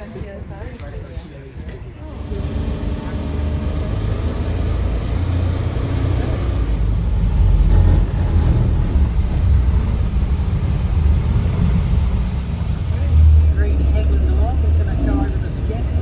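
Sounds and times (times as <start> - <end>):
tracked vehicle engine droning: 2.0 - 16.0.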